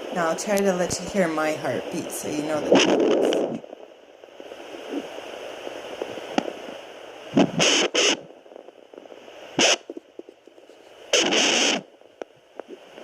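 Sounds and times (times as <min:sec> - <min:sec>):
doppler speaker static hiss: 0:00.0 - 0:13.0.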